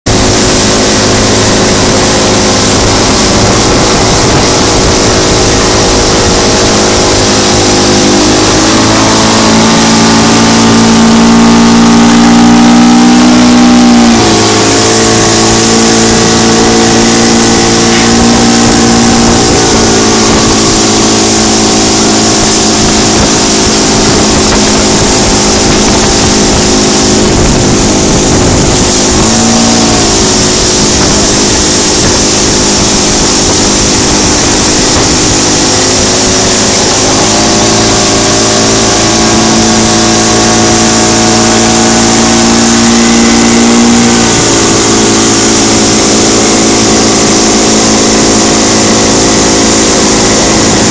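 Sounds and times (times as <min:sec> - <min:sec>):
outboard motor running: 0:00.0 - 0:50.9
rushing water and wind: 0:00.1 - 0:50.9.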